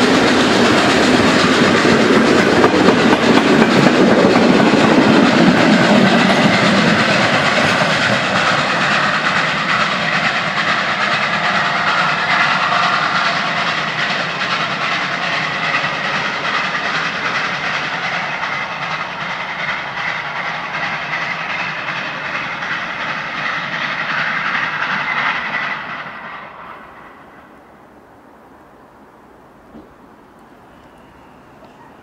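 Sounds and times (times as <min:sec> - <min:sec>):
steam hiss: 0:00.0 - 0:27.9
train wheels rolling on rails: 0:00.0 - 0:32.0.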